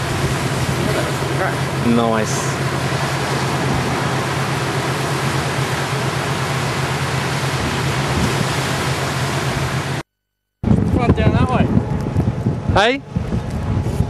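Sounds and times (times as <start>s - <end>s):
wind noise on microphone: 0.0s - 10.0s, 10.6s - 14.0s
low steady hum: 0.0s - 14.0s.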